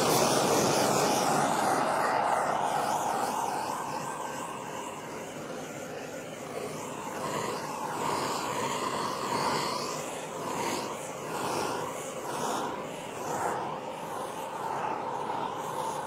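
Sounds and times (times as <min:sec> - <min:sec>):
butane torch hissing: 0:00.0 - 0:16.0.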